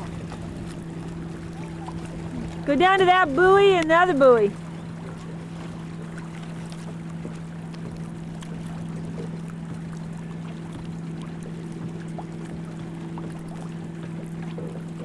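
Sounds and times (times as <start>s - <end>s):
small water splashes: 0.0s - 15.0s
steady low hum: 0.0s - 15.0s
wind buffeting microphone: 0.0s - 15.0s.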